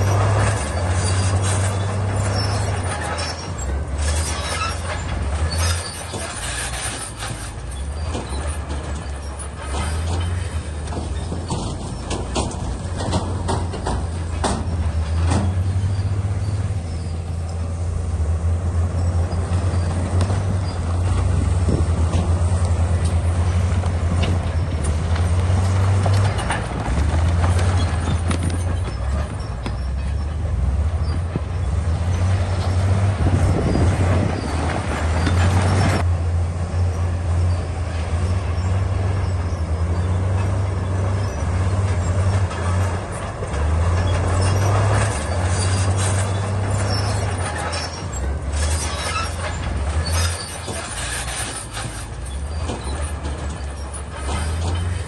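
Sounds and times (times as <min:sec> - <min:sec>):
metal clanks: 0:00.0 - 0:17.8, 0:18.8 - 0:36.1, 0:37.9 - 0:55.0
bulldozer diesel engine droning: 0:00.0 - 0:55.0.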